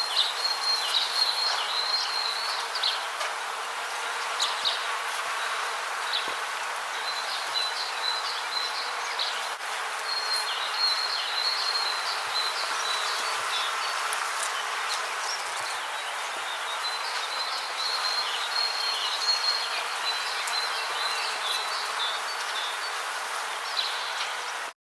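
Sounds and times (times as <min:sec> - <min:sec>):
steady hiss: 0:00.0 - 0:24.8.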